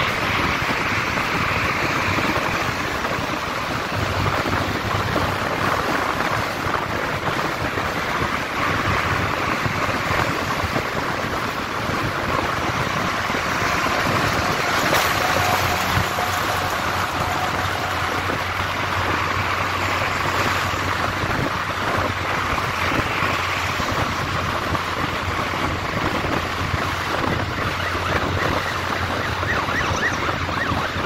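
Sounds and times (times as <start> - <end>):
motorcycle road and engine noise: 0.0 - 31.0
wind buffeting microphone: 0.0 - 31.0.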